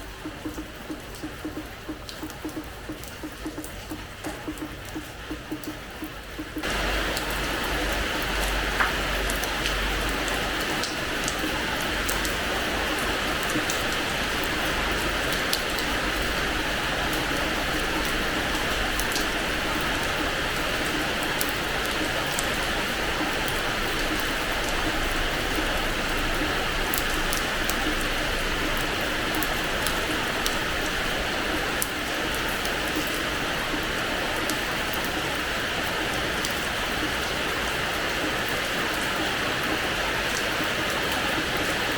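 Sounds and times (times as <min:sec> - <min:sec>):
rain on hard floor: 0:00.0 - 0:41.9.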